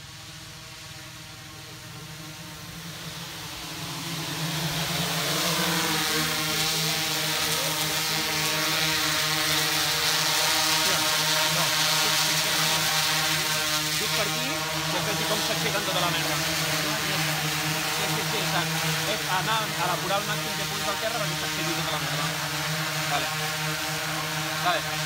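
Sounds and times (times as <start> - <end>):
drone propellers whirring: 0.0 - 25.0.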